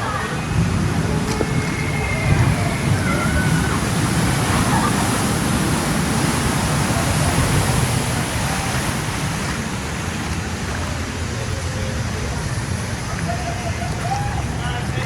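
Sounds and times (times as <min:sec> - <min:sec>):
faint voices: 0:00.0 - 0:15.0
water rushing: 0:00.0 - 0:15.0.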